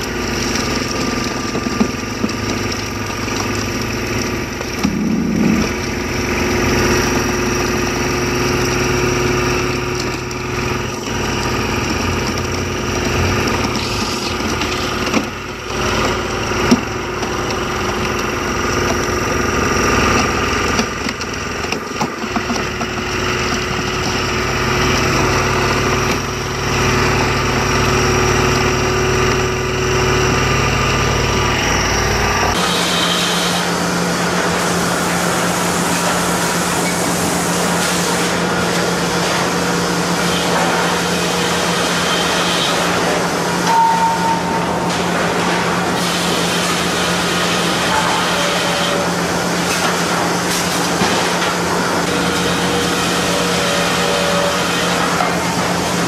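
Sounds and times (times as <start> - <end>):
log splitter engine running: 0.0 - 56.0.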